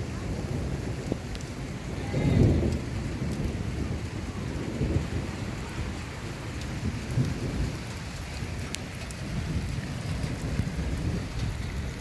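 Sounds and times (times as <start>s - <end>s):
faint ticks of raindrops: 0.0s - 12.0s
heavy rain: 0.0s - 12.0s.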